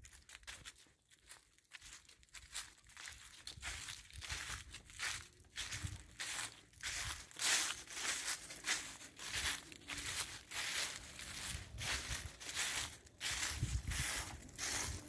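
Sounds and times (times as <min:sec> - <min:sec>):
footsteps in dry leaves: 0:00.0 - 0:15.0.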